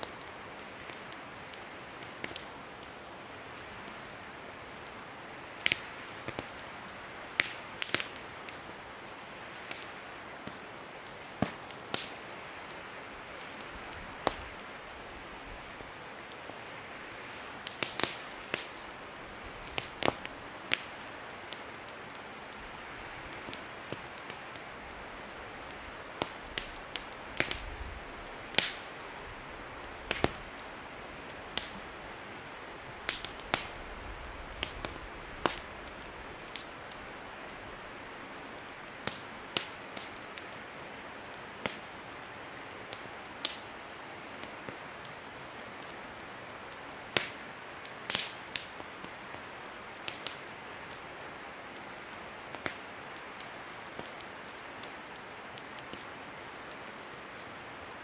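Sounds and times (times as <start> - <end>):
campfire crackling: 0.0 - 58.0
steady hiss of fire: 0.0 - 58.0.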